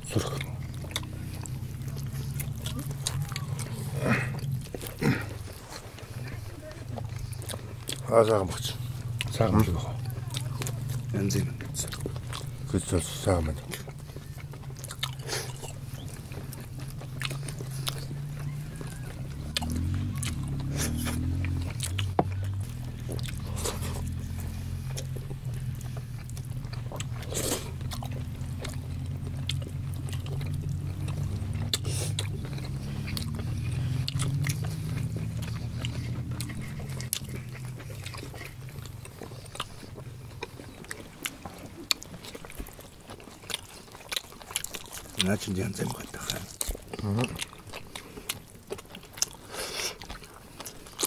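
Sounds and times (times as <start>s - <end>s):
men chewing: 0.0s - 51.0s.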